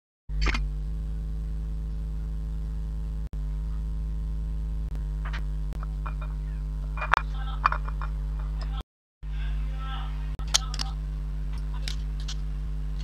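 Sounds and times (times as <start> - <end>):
electrical mains hum: 0.3 - 13.0.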